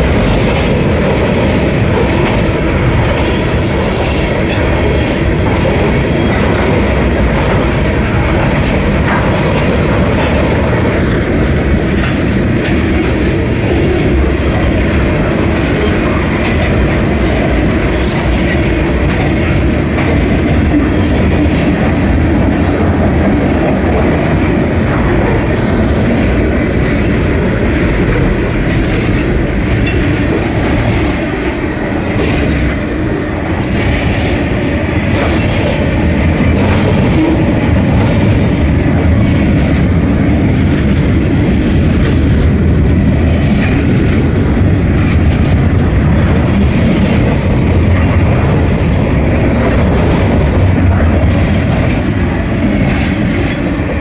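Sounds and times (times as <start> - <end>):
steel wheels rumbling on rails: 0.0 - 54.0
wheels clicking over rail joints: 0.0 - 54.0.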